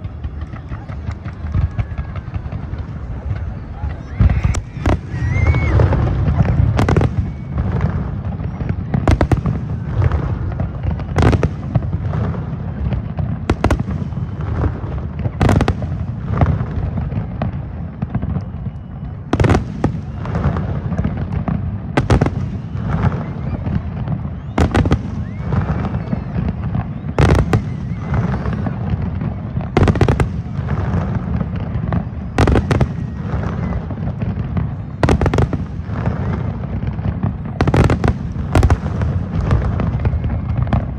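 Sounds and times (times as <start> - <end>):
low rumble of explosions: 0.0 - 40.9.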